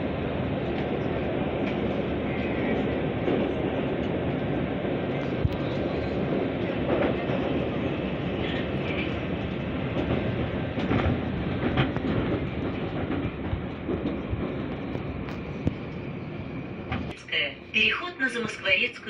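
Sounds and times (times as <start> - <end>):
train wheels rumbling on rails: 0.0 - 17.2.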